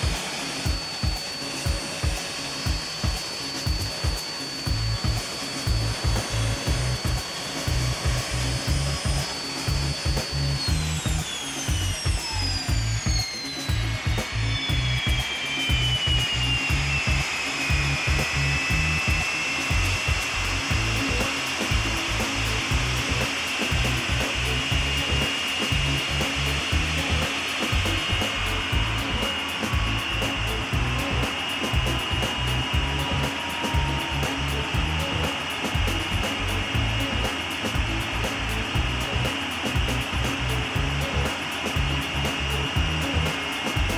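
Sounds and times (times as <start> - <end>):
jet engine turbine whine: 0.0 - 43.9
jet noise rush: 0.0 - 43.9.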